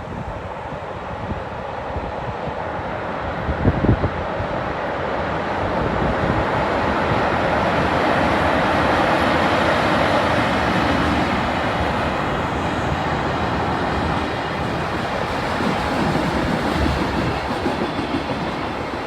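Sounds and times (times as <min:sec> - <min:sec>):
train wheels rumbling on steel bridge: 0:00.0 - 0:19.0.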